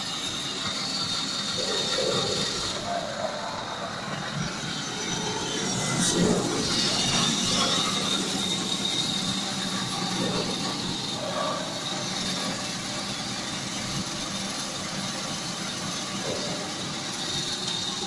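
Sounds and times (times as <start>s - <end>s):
band saw machine whining: 0.0s - 18.0s.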